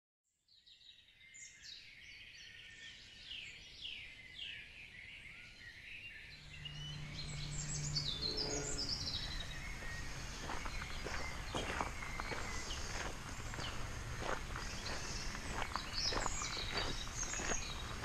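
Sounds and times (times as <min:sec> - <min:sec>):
birds chirping and trilling: 0:00.6 - 0:18.0.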